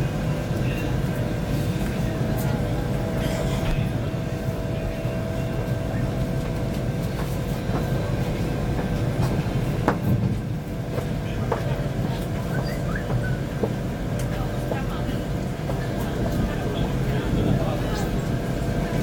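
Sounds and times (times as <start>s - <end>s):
train cabin rumble: 0.0s - 19.0s.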